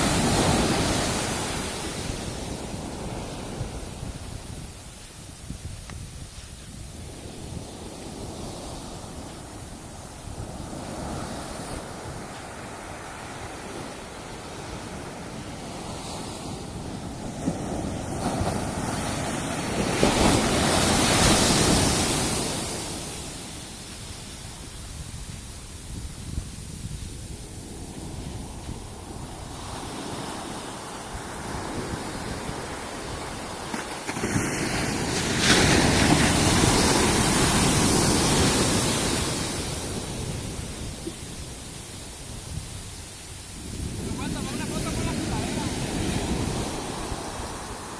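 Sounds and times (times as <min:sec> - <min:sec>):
waves crashing on beach: 0:00.0 - 0:47.9.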